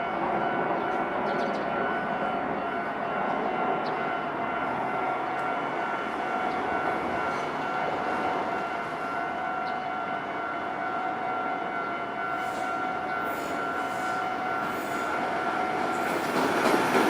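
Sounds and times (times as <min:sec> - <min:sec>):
level crossing warning alarm: 0:00.0 - 0:17.0.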